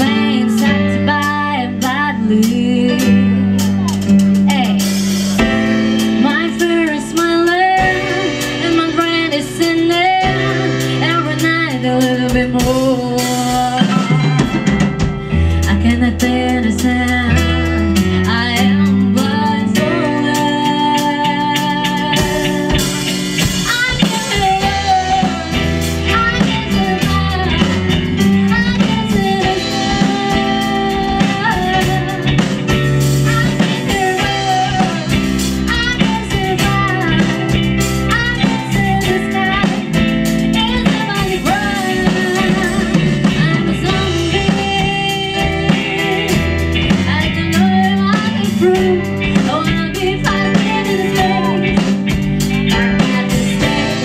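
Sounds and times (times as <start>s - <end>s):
bending lead guitar line: 0.0s - 54.0s
live rock band playing: 0.0s - 54.0s.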